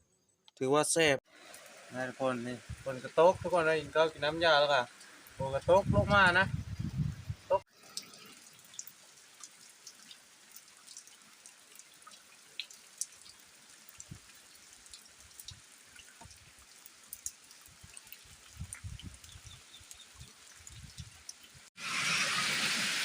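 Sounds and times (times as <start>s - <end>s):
light rain dripping: 1.2s - 23.0s.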